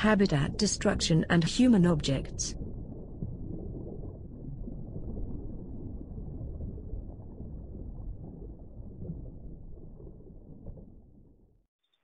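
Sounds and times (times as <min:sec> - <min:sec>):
muffled underwater rumble: 0:00.0 - 0:11.7.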